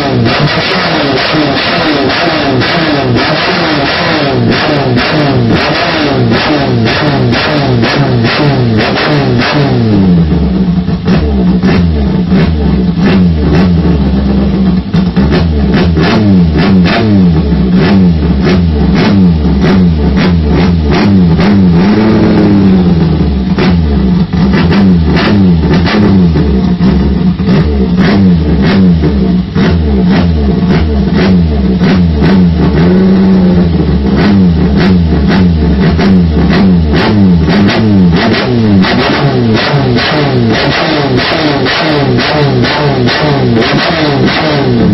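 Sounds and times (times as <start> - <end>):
engine revving: 0.0 - 44.9.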